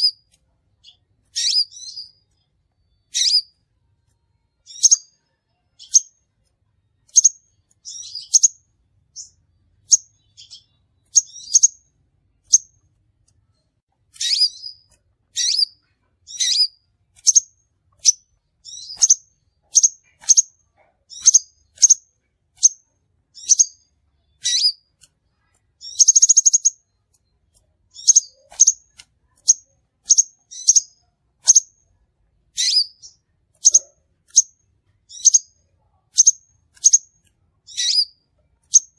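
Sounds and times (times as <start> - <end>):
high-pitched bird chirps: 0.0 - 6.4, 7.0 - 12.8, 13.6 - 31.9, 32.5 - 38.9.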